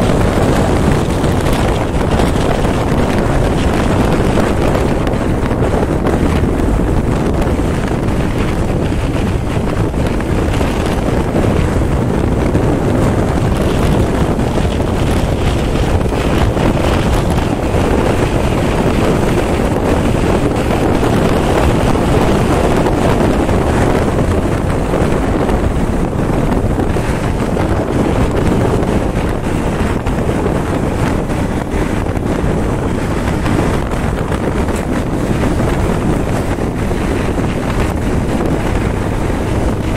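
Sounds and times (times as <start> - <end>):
motorcycle running: 0.0 - 39.9
wind buffeting microphone: 0.0 - 39.9.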